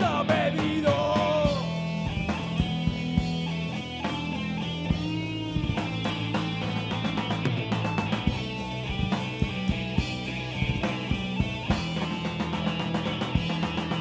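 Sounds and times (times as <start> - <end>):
bass guitar: 0.0 - 14.0
distorted electric guitar: 0.0 - 14.0
drum kit: 0.0 - 14.0.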